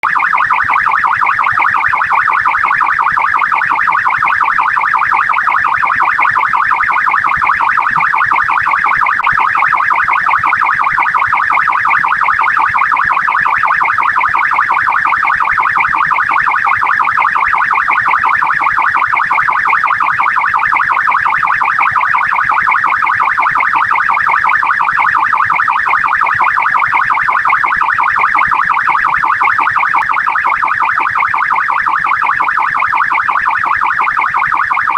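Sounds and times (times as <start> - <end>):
police car siren: 0.0 - 34.9.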